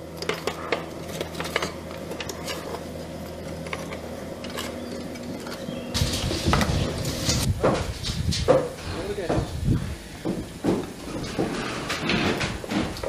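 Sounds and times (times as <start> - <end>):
electric blower fan humming: 0.0 - 13.0
loud rough noise: 0.0 - 13.0.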